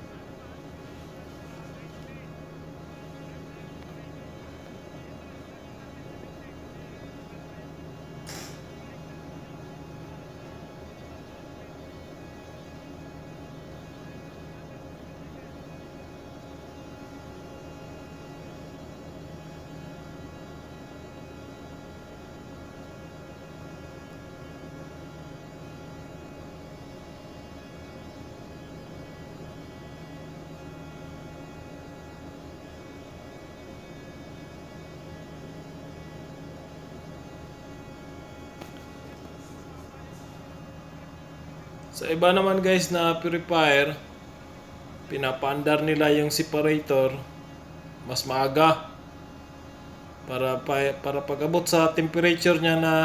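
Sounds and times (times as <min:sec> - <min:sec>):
engine room machinery hum: 0:00.0 - 0:53.0.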